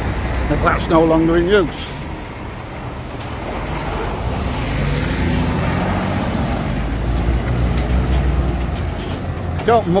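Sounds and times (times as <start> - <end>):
diesel truck engine rumble: 0.0 - 10.0.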